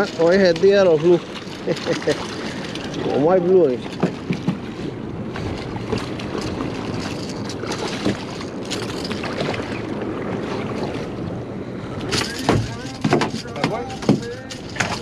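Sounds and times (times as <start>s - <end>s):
water slapping against boat hull: 0.0s - 11.4s, 12.0s - 15.0s
wind buffeting microphone: 0.0s - 15.0s.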